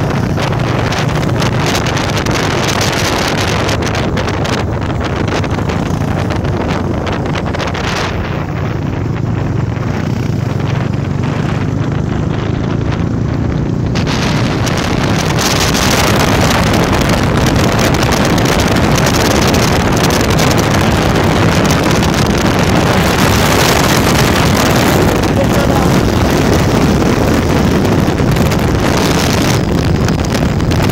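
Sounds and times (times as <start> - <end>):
motorcycle engine running: 0.0 - 30.9
wind noise on microphone: 0.0 - 30.9.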